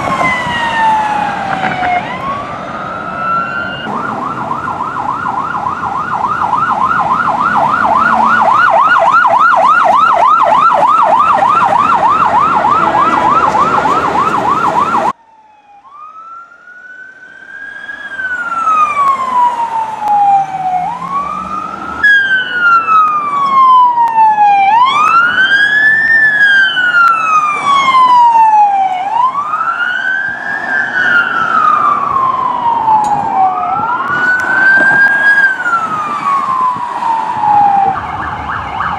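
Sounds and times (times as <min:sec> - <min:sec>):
siren wail: 0:00.0 - 0:38.9
siren yelp: 0:00.0 - 0:38.9.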